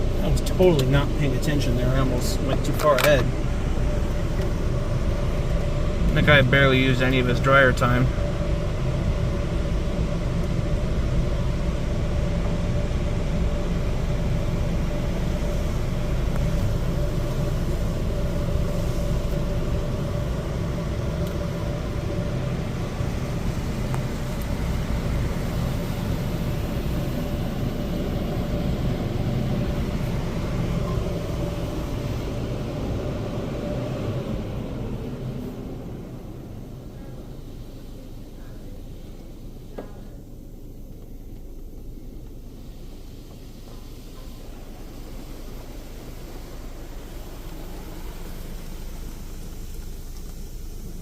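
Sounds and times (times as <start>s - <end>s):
car wash dryer blowers: 0.0s - 51.0s.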